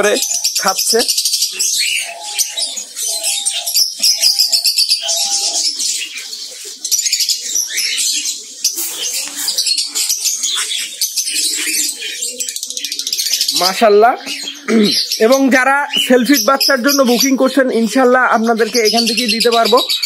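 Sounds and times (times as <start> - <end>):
cockatiels chirping and chattering: 0.0 - 17.5
low steady bird notes: 0.0 - 20.0.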